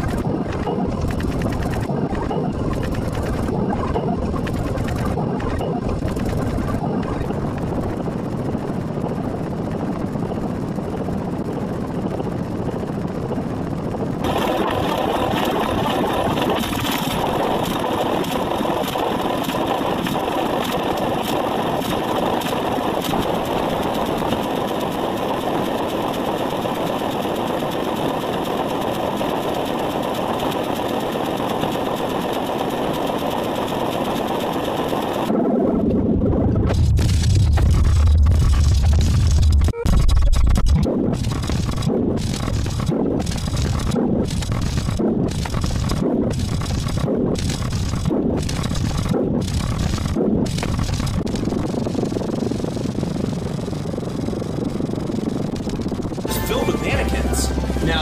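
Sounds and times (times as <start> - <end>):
mechanical engine-like drone: 0.0 - 58.0.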